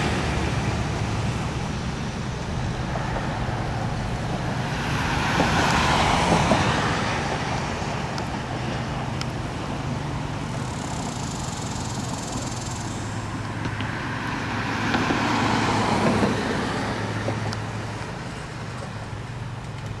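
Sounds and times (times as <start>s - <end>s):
traffic engine hum: 0.0s - 20.0s
vehicle passing: 0.0s - 20.0s.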